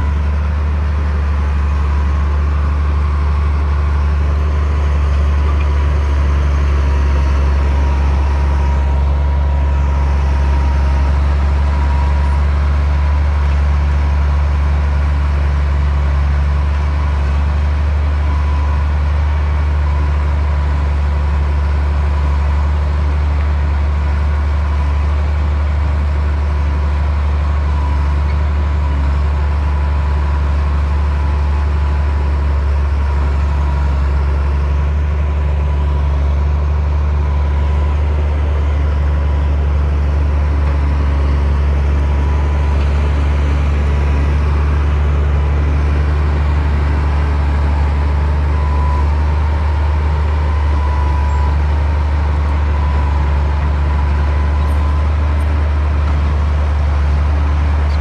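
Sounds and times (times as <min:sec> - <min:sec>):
bulldozer diesel engine drone: 0:00.0 - 0:58.0.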